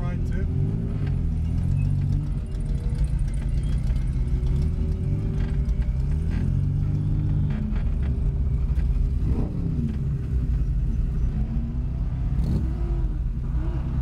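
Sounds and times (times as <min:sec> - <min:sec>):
car engine rumbling at low revs: 0:00.0 - 0:14.0.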